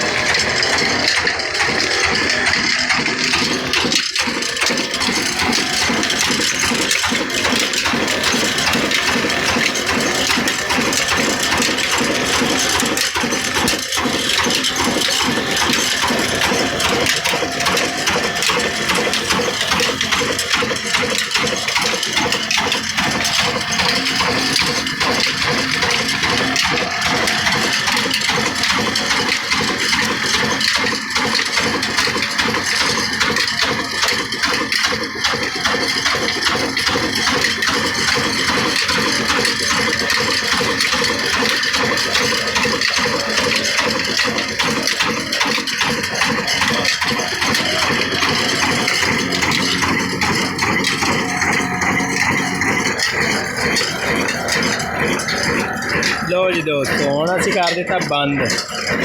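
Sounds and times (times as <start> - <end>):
diesel engine running: 0.0 - 59.0
flour mill clattering: 0.0 - 59.0.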